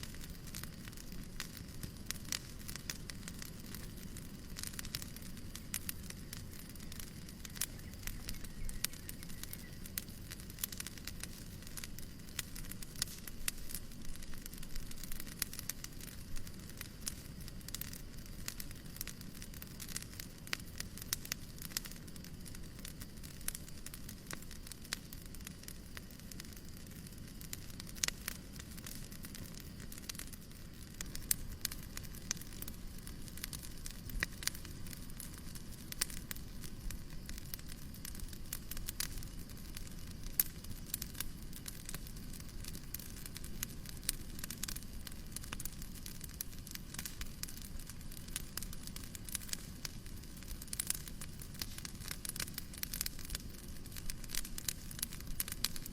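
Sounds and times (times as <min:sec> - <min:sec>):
soft hiss: 0:00.0 - 0:55.9
wood fire crackling: 0:00.0 - 0:55.9.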